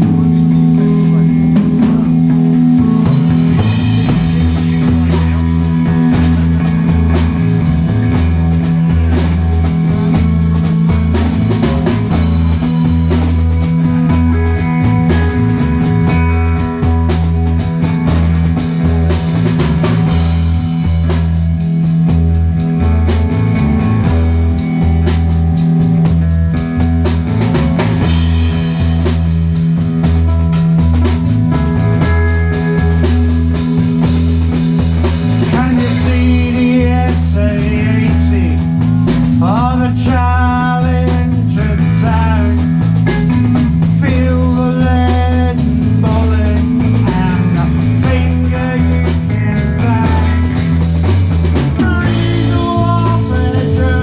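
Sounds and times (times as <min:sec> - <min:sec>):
bass guitar: 0:00.0 - 0:54.0
drum kit with rimshots: 0:00.0 - 0:54.0
electric guitar: 0:00.0 - 0:54.0.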